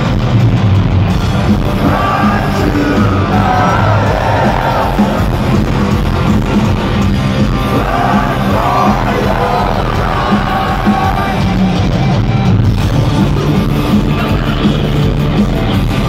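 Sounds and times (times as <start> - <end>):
drums: 0.0 - 16.0
electric guitars: 0.0 - 16.0.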